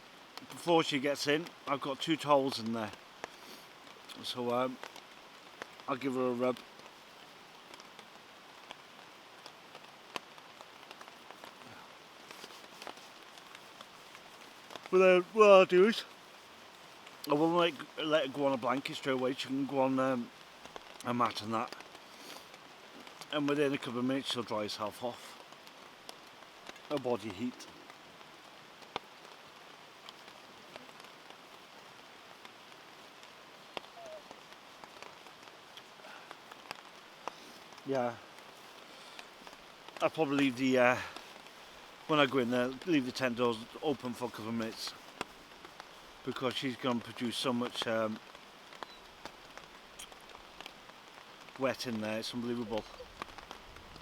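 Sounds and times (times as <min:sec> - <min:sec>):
rain hissing: 0:00.0 - 0:54.0
raindrops ticking: 0:00.0 - 0:54.0.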